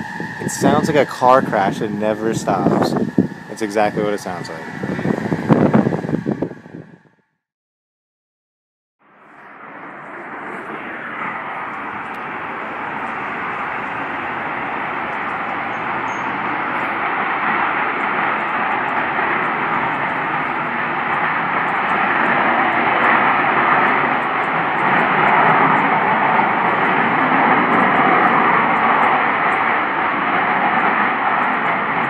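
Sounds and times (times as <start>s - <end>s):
loud steady rushing from sky: 0.0s - 7.3s, 9.0s - 32.0s.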